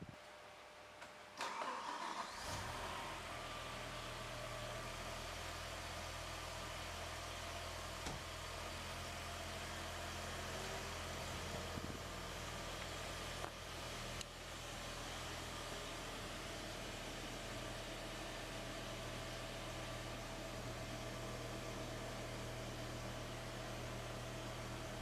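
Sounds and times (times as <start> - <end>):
car engine starting and idling: 1.4 - 25.0.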